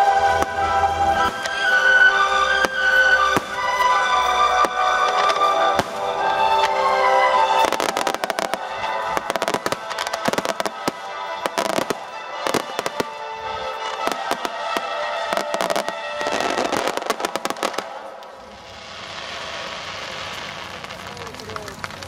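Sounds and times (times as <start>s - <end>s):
music soundtrack: 0.0s - 21.8s
fireworks crackling: 0.0s - 22.0s.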